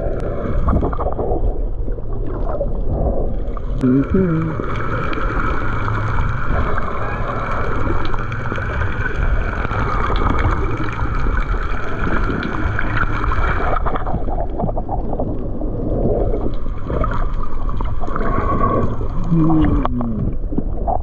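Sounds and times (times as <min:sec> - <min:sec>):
steady low rumble: 0:00.0 - 0:21.0
water sloshing and gurgling: 0:00.0 - 0:21.0.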